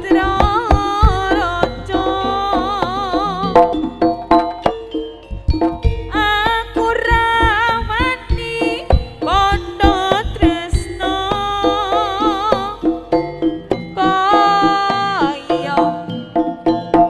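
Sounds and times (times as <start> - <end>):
hand drum strokes: 0.0 - 17.0.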